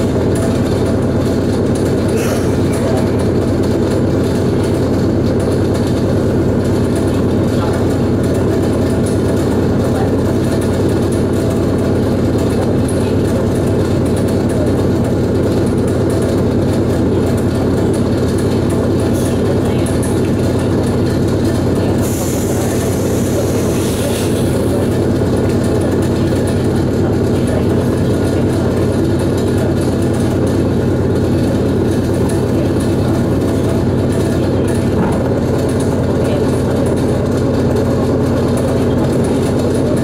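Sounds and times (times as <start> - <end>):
train rumble and hum: 0.0 - 40.0.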